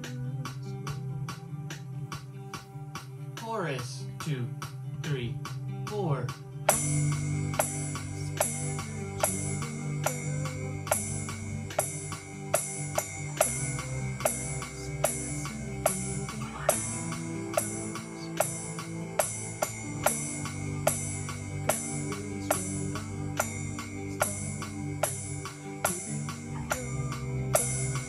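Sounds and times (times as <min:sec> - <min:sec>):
backing track of held chords: 0:00.0 - 0:28.0
electronic drum kit beat: 0:00.0 - 0:28.0.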